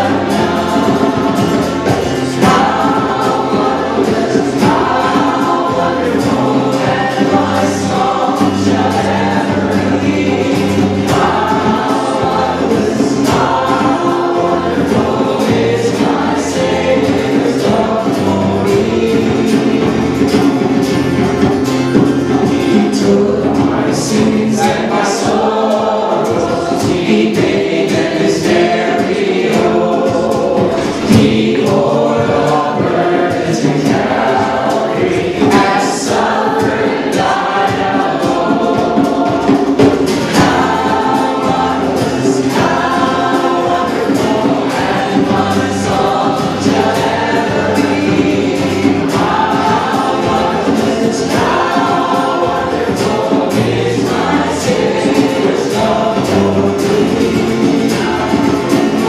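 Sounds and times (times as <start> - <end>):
acoustic guitars strummed: 0.0 - 59.0
voices singing together: 0.0 - 59.0.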